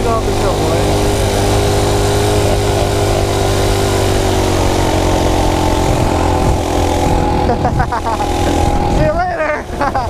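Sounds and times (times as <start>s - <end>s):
wind on microphone: 0.0s - 9.8s
small engine running: 0.0s - 10.0s.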